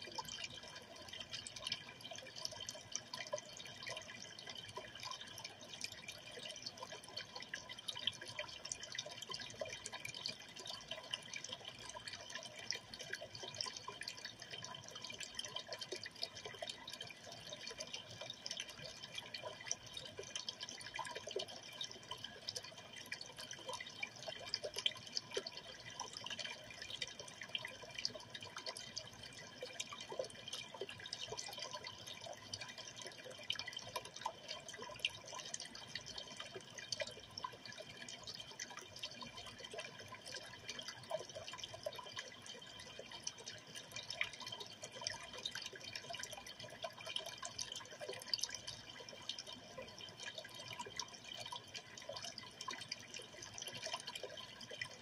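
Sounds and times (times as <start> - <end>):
aquarium water trickling: 0.0 - 55.0.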